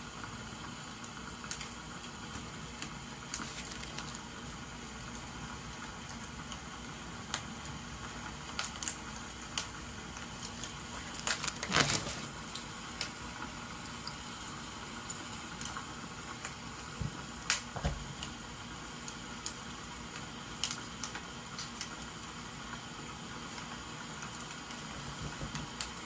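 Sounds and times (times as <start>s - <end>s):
rain hissing: 0.0s - 26.0s
wood fire crackling: 0.0s - 26.0s.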